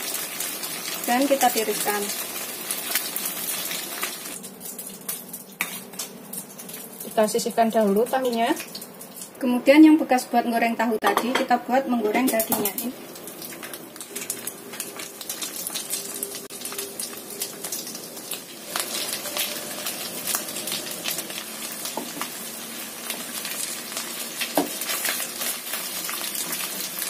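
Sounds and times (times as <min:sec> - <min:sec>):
meat sizzling in hot oil: 0:00.0 - 0:09.4, 0:12.2 - 0:27.0.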